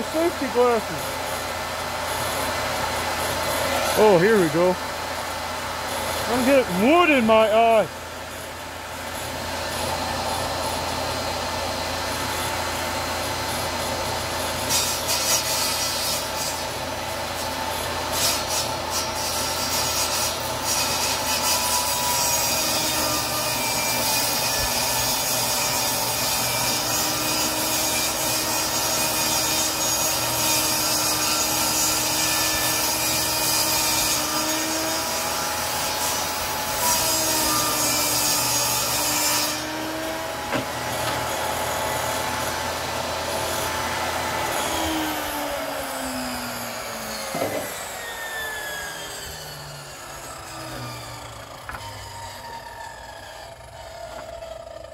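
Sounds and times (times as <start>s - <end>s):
saw motor winding down: 0.0s - 54.9s
table saw cutting wood: 0.0s - 54.9s.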